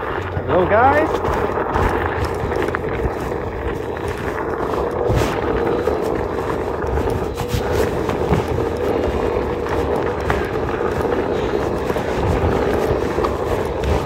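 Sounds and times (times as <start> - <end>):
gusty flares: 0.0 - 14.0
rough rumbling noise: 0.0 - 14.0.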